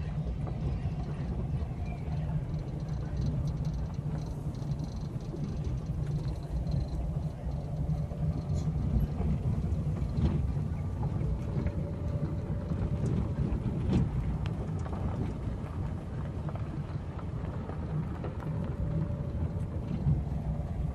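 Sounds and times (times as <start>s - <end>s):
vehicle rumbling along road: 0.0s - 20.9s.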